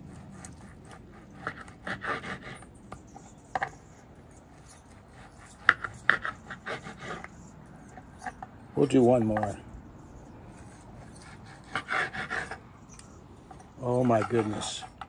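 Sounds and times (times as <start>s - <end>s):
knife sawing through meat: 0.0s - 9.4s, 10.2s - 13.1s, 13.8s - 15.0s.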